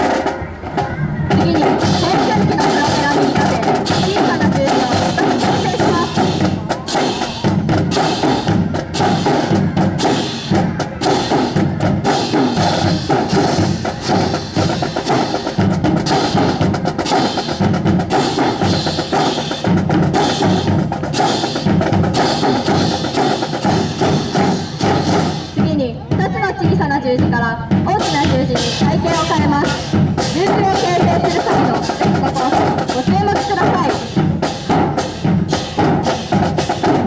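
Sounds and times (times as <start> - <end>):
drums and percussion music: 0.0 - 37.0.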